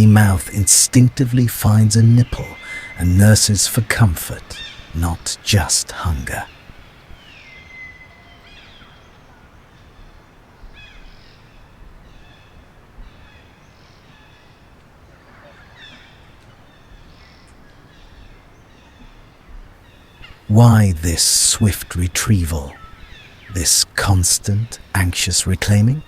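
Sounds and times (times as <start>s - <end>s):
low forest background: 0.0s - 26.0s.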